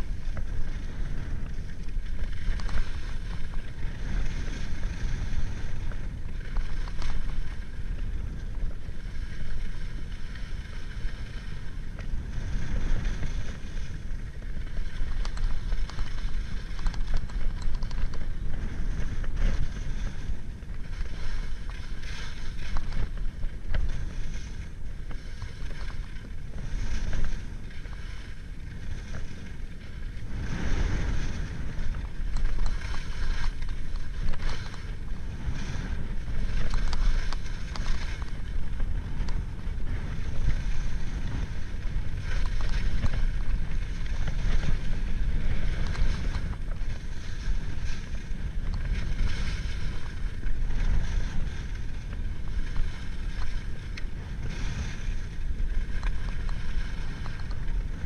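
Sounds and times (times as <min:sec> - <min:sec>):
skis scraping over packed snow: 0:00.0 - 0:58.0
wind rushing over microphone: 0:00.0 - 0:58.0.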